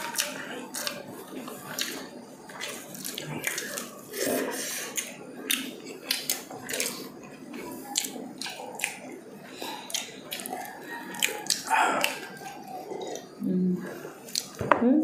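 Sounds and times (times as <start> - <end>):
people chewing with lip smacks: 0.0 - 14.6.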